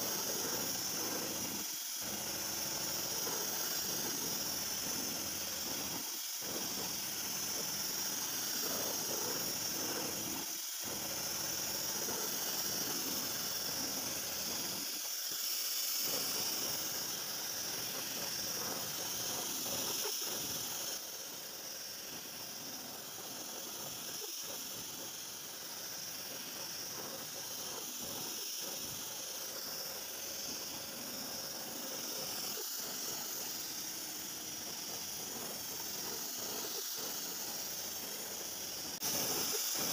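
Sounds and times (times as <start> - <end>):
milling machine high hiss: 0.0 - 39.9.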